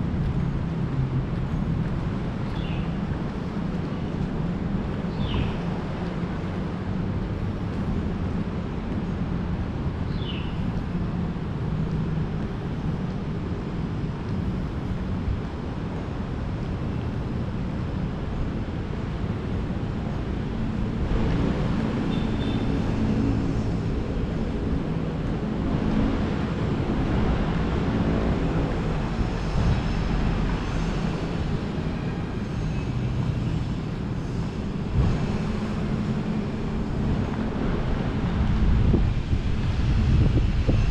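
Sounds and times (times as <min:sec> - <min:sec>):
city road traffic hum: 0:00.0 - 0:40.9.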